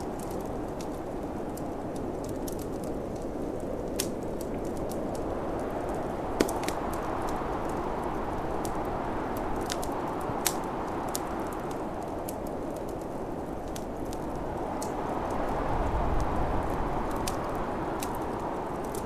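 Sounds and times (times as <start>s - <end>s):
snowstorm wind rushing: 0.0s - 19.0s
wood fire crackling and popping: 0.0s - 19.0s.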